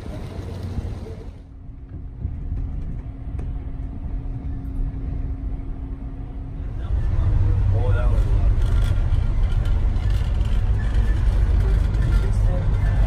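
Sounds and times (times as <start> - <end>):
steady low hum: 0.0 - 13.0
train rolling rumble: 0.0 - 13.0.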